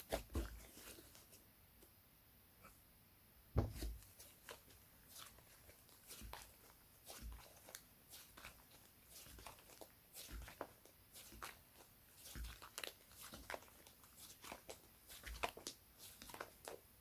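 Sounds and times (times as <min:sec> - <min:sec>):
hands squishing slime: 0:00.0 - 0:01.3, 0:03.6 - 0:17.0.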